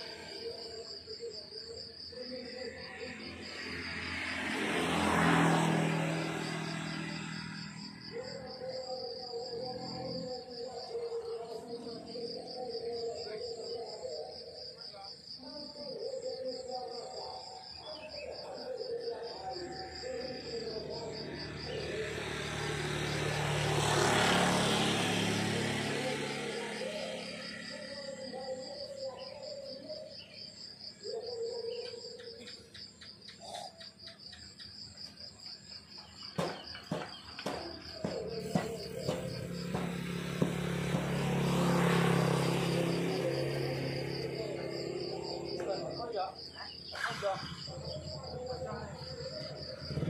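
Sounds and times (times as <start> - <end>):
vehicle passing: 0.0 - 15.3, 16.1 - 50.0
crickets chirping: 0.0 - 50.0.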